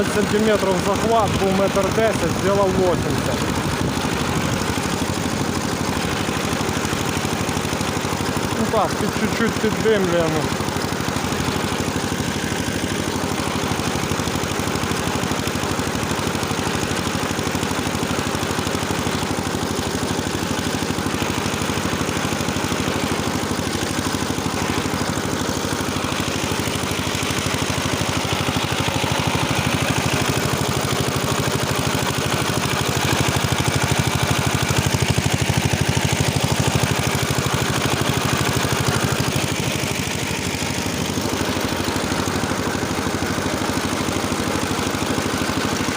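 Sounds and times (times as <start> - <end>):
tiller engine running under load: 0.0 - 45.9.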